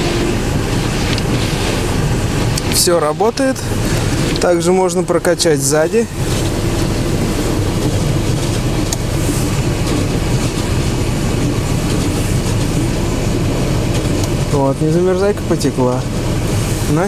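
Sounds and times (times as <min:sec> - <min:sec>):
washer pump humming: 0:00.0 - 0:17.0.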